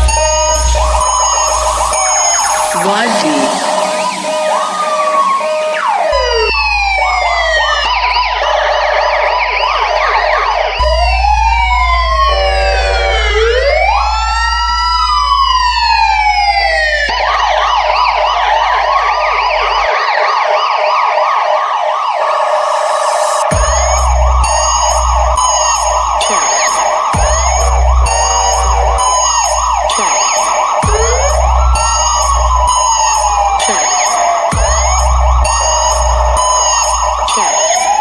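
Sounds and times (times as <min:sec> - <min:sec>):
police sirens wailing: 0:00.0 - 0:38.0.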